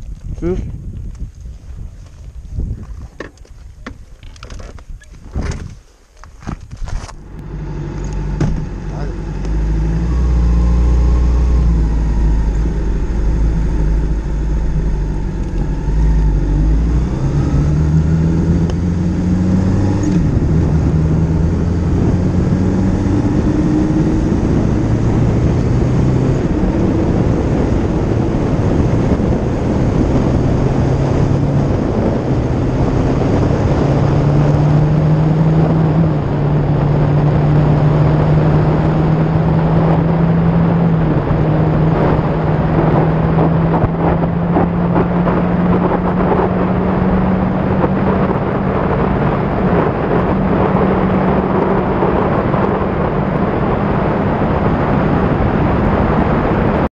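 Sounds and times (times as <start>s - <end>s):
wind rush on microphone: 0.0s - 56.9s
motorcycle engine accelerating: 6.6s - 56.9s.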